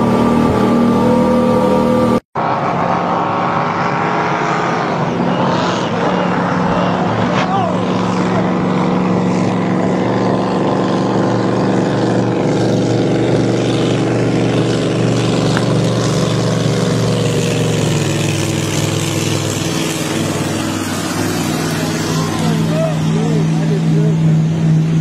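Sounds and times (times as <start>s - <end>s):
powerboat engine rumbling: 0.0s - 25.0s.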